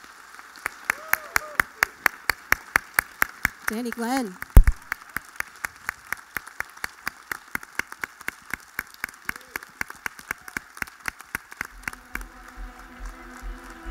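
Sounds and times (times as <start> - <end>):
audience clapping in rhythm: 0.0 - 13.9.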